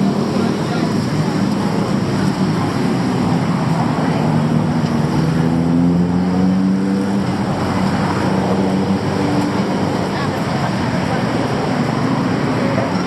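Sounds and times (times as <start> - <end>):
street traffic noise: 0.0 - 13.0
vehicle engine running nearby: 0.0 - 13.0.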